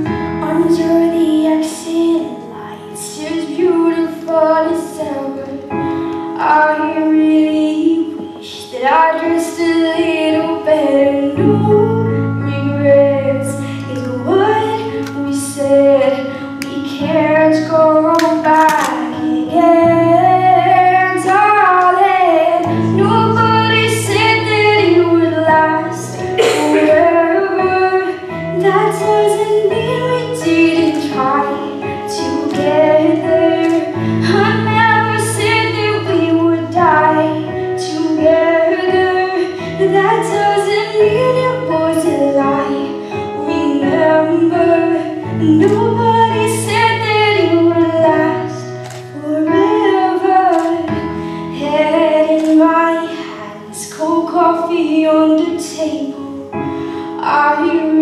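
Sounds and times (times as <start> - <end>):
woman singing a pop ballad: 0.0 - 58.0.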